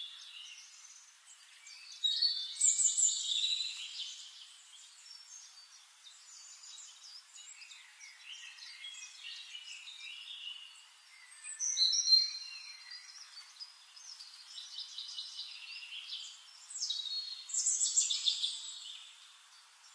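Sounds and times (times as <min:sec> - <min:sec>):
birds chirping and trilling: 0:00.0 - 0:19.9.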